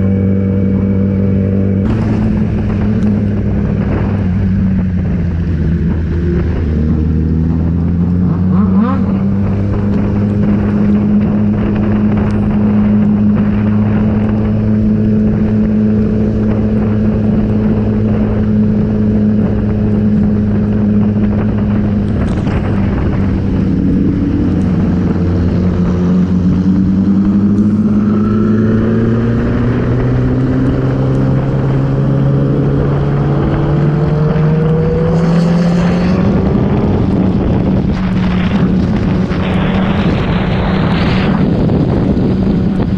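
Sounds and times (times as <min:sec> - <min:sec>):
motorcycle engine: 0:00.0 - 0:42.9
wind and road noise: 0:00.0 - 0:42.9.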